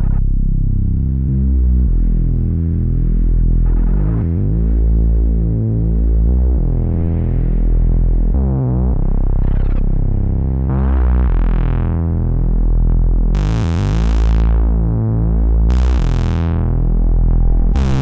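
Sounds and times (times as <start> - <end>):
synthesizer music with deep bass: 0.0 - 18.0.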